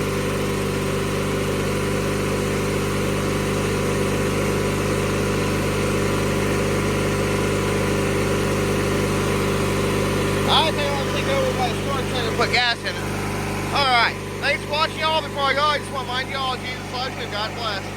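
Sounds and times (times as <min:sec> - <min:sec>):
lawnmower engine running: 0:00.0 - 0:17.9.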